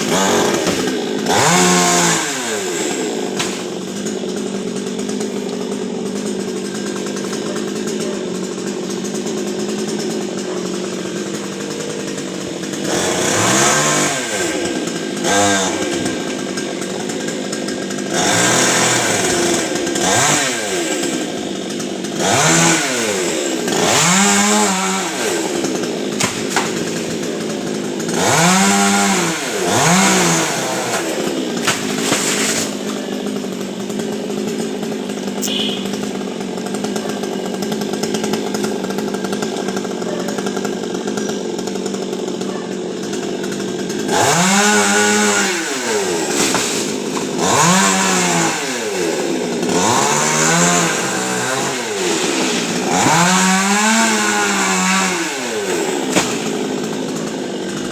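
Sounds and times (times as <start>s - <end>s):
chainsaw idling and revving: 0.0s - 57.9s.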